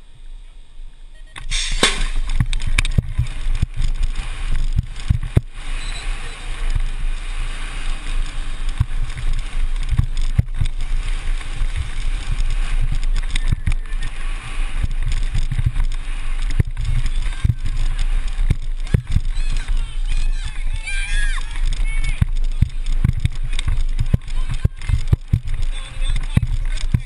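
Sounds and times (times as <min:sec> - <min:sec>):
bike tyre noise: 0:00.0 - 0:27.0
bike knocking and rattling: 0:01.3 - 0:27.0
wind buffeting: 0:01.4 - 0:27.0.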